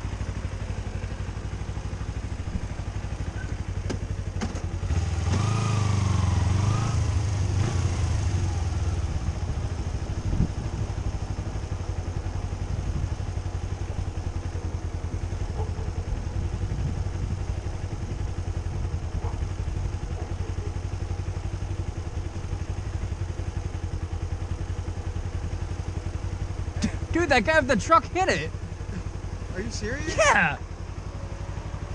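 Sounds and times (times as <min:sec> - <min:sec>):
vehicle engine idling: 0:00.0 - 0:31.9.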